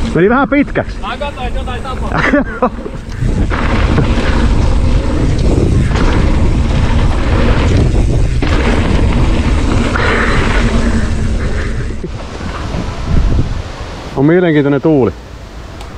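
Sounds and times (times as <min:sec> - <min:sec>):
wind buffeting microphone: 0:00.0 - 0:14.2
tyre and trail noise: 0:00.0 - 0:15.9.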